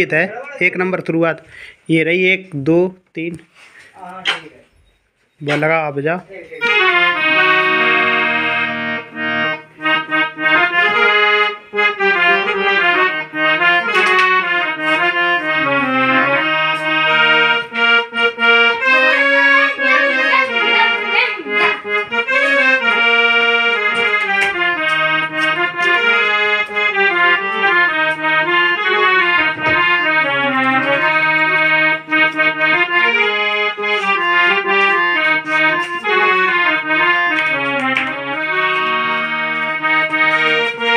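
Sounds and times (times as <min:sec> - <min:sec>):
harmonium playing: 0:06.3 - 0:40.9.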